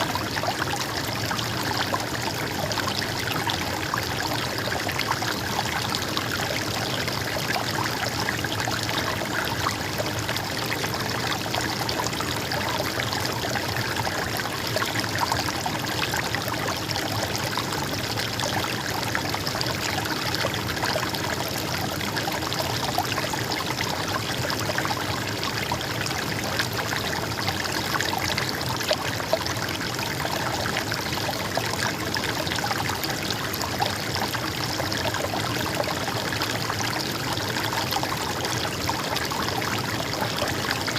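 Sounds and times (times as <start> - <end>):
stream babbling and trickling: 0.0 - 40.9.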